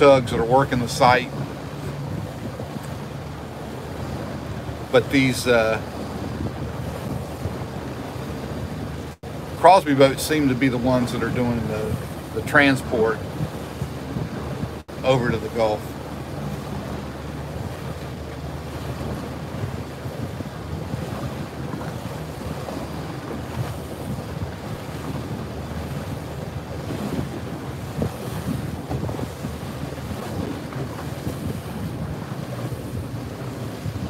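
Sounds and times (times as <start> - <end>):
boat engine hum: 0.0 - 34.0
water washing past: 0.0 - 34.0
wind buffeting microphone: 0.0 - 34.0.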